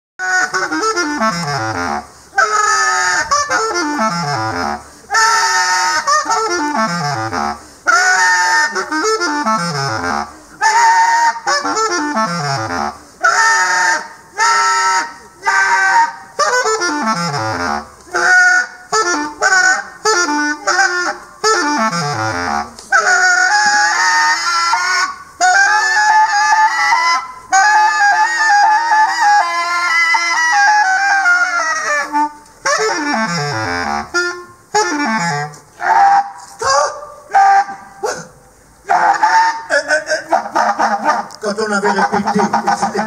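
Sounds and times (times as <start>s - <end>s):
bass clarinet improvising: 0.2s - 43.0s.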